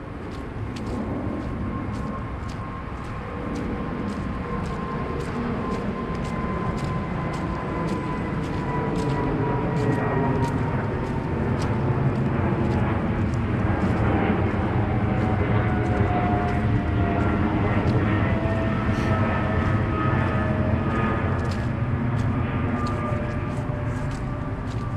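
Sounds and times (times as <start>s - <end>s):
aircraft engine passing overhead: 0.0s - 24.9s
light ticking steps: 0.1s - 24.9s.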